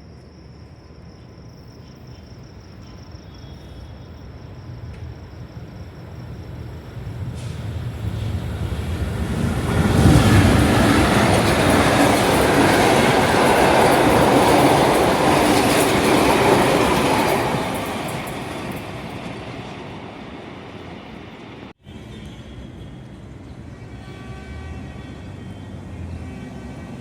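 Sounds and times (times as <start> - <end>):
passenger train passing: 0.0 - 27.0.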